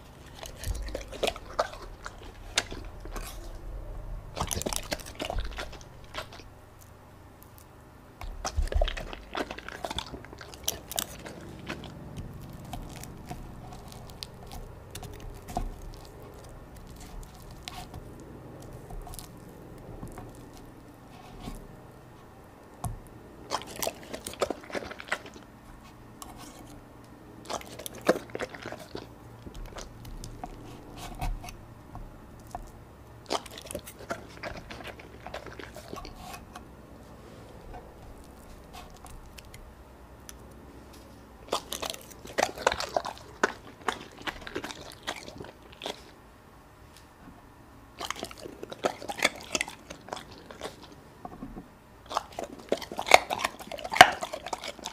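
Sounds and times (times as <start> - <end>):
dog chewing wet crunchy food: 0.0 - 46.2, 47.9 - 54.9.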